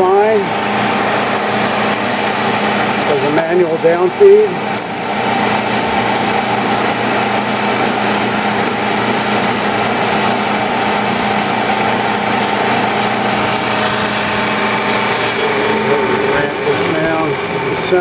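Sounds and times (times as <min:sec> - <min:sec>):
drill press humming and whining: 0:00.0 - 0:18.0.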